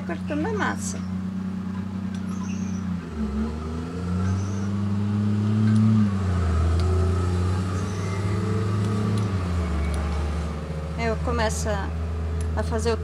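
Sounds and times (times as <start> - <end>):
motor engine droning: 0.0 - 13.0.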